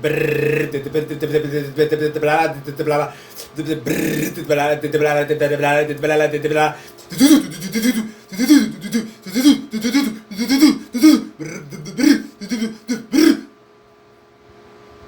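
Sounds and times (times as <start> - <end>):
man making rhythmic mouth noises: 0.0 - 13.5.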